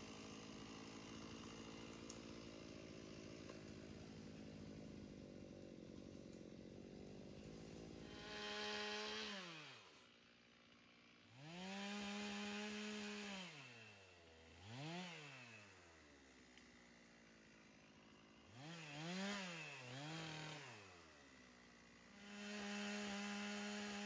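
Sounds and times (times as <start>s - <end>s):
chainsaw running and revving: 0.0s - 24.0s.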